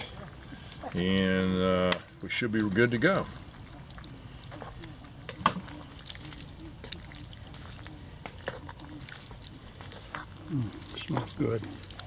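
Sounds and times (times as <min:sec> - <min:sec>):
wooden spoon stirring thick food: 0:02.2 - 0:12.0.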